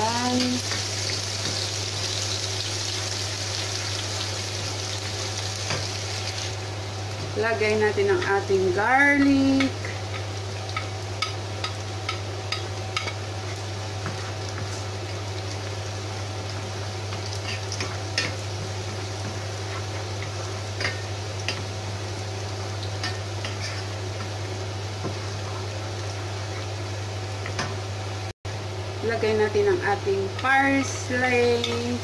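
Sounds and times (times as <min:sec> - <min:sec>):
onion sizzling in oil: 0:00.0 - 0:28.0, 0:28.9 - 0:32.0.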